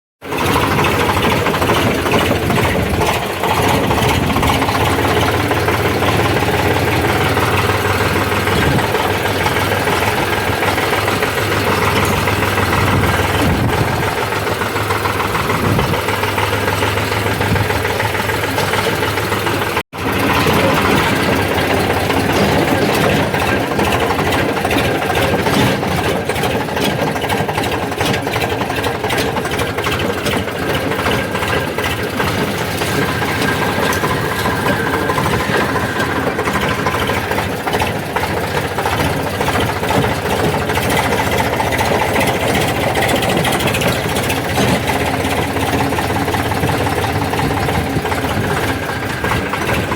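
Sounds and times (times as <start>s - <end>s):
tractor diesel engine running: 0.2s - 49.9s.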